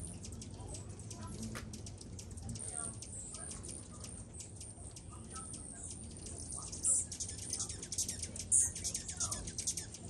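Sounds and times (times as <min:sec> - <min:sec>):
hummingbirds chipping: 0:00.0 - 0:10.0.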